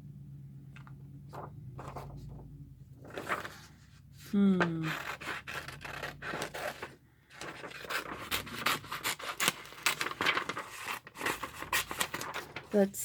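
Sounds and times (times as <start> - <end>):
paper rustling and scraping: 0.8 - 12.9.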